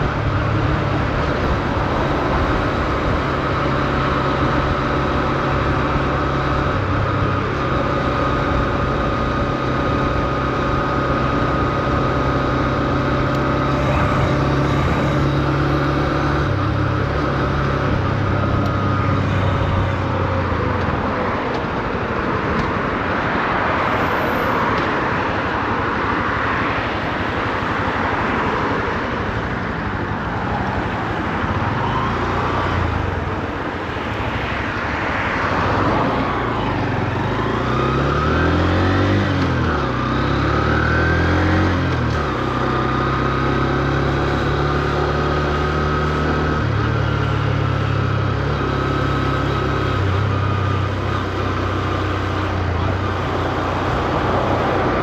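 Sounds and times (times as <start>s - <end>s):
motorcycle engine: 0.0s - 23.3s, 24.8s - 55.0s
wind and road noise: 0.0s - 55.0s.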